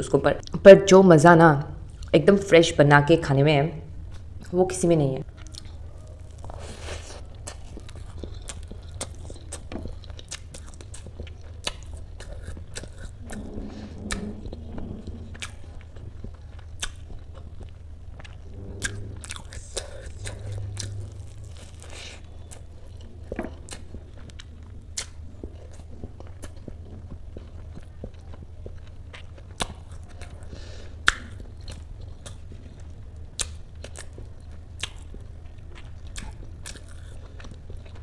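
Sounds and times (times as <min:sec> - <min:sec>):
person chewing food: 0:05.3 - 0:38.0.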